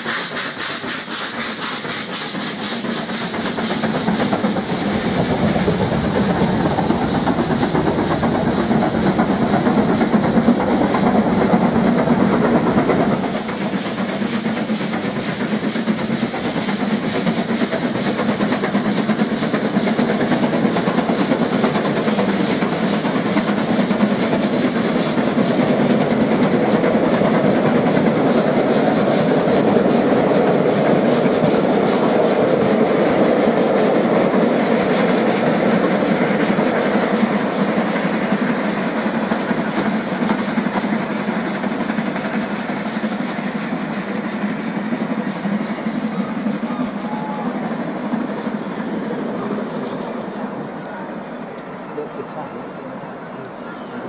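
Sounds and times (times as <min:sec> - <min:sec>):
train wheels rolling over rails: 0:00.0 - 0:51.8
hissing steam: 0:00.0 - 0:54.0
steam locomotive exhaust beats: 0:00.0 - 0:54.0.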